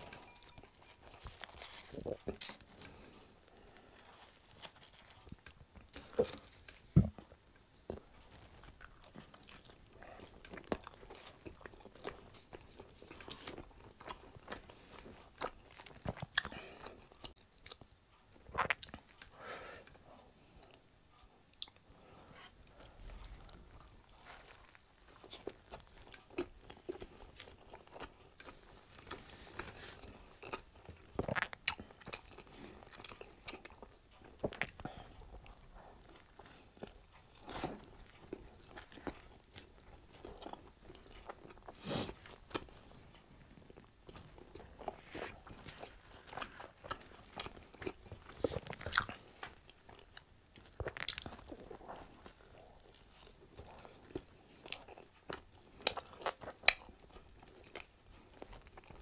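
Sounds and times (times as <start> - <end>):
chewing food: 0.0 - 59.0.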